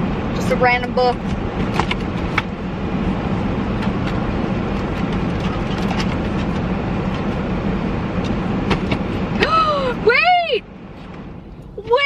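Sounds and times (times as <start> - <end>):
car air conditioning blowing: 0.0 - 12.0
idling engine low hum: 0.0 - 12.0.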